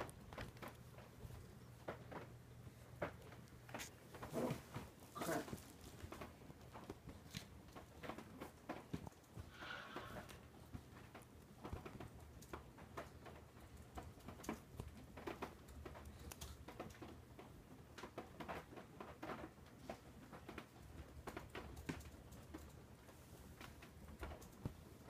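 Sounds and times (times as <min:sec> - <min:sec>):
cats clawing at a toy over fabric: 0:00.0 - 0:25.0.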